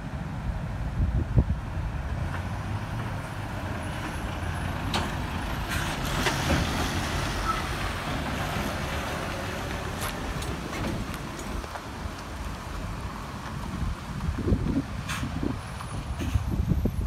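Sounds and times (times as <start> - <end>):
wind buffeting microphone: 0.1 - 17.0
lorry diesel engine passing: 1.7 - 17.0.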